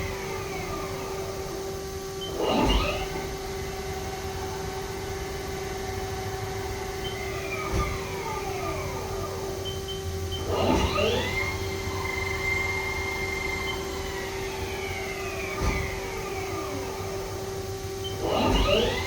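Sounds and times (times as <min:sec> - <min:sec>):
lathe spindle whining: 0:00.0 - 0:19.0
machine steady hum: 0:00.0 - 0:19.0.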